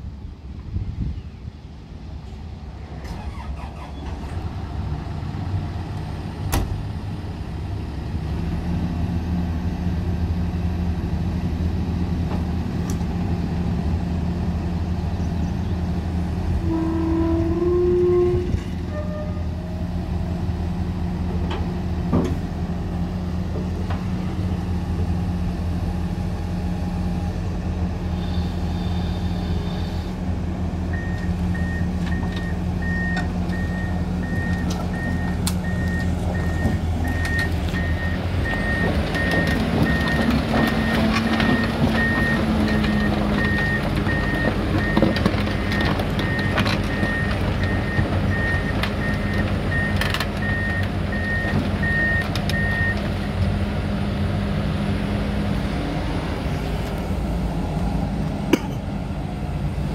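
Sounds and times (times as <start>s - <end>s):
excavator diesel engine drone: 0.0s - 59.9s.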